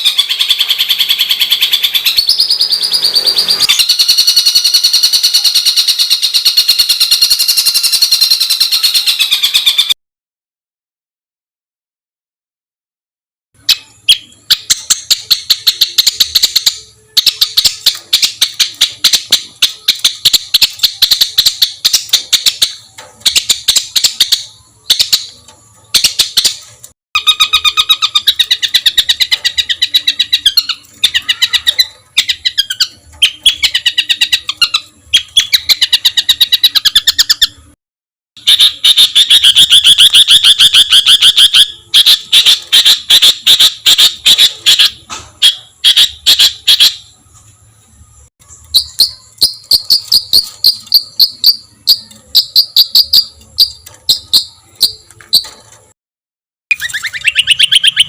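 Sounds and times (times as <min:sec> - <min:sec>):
high evenly paced bird notes: 0:00.0 - 0:10.0, 0:13.6 - 0:37.8, 0:38.4 - 0:55.6, 0:56.7 - 0:58.0
songbird harsh rapid notes: 0:00.0 - 0:10.0, 0:13.6 - 0:37.8, 0:38.4 - 0:47.1, 0:48.4 - 0:55.6, 0:56.7 - 0:58.0.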